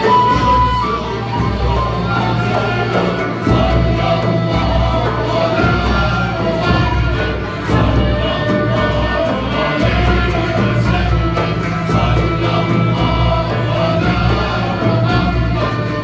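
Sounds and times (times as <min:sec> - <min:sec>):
frame drum beat: 0:00.0 - 0:16.0
male choir singing in unison: 0:00.0 - 0:16.0
string and flute ensemble: 0:00.0 - 0:16.0.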